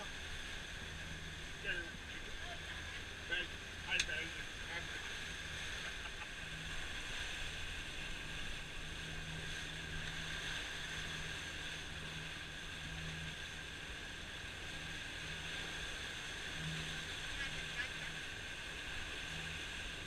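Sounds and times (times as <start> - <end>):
low hum: 0.0 - 20.0
water churning in wake: 0.0 - 20.0.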